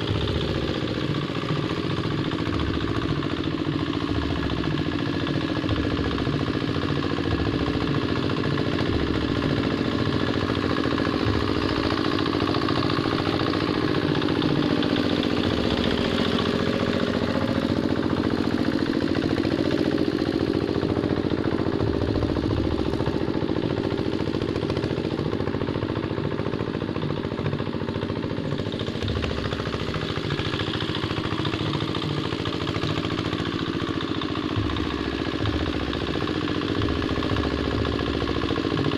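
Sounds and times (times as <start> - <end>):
tractor engine clattering: 0.0 - 38.9.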